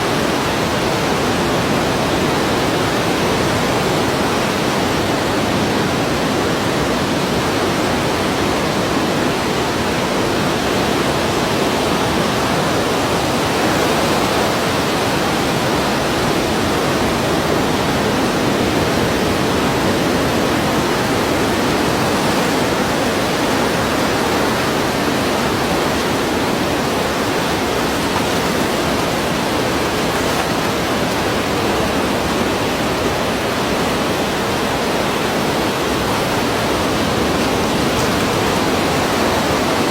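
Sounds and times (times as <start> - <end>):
rushing surf: 0.0 - 39.9.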